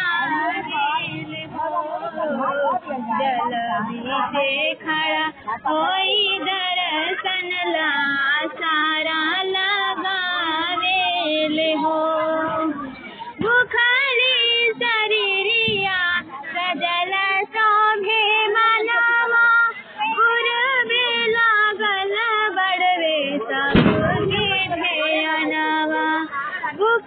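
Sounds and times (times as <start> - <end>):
women singing devotional song: 0.0 - 27.0.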